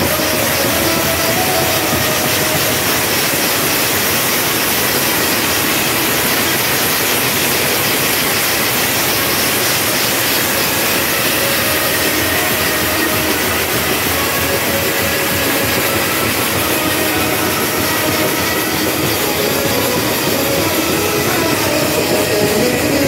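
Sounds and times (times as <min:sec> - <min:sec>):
trumpets: 0:00.0 - 0:23.0.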